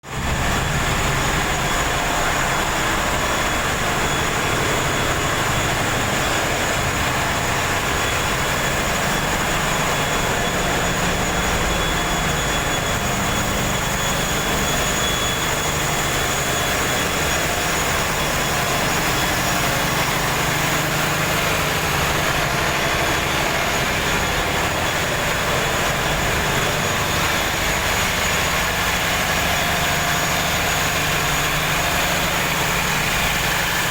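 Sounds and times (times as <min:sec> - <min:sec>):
engine-room machinery drone: 0:00.0 - 0:33.9.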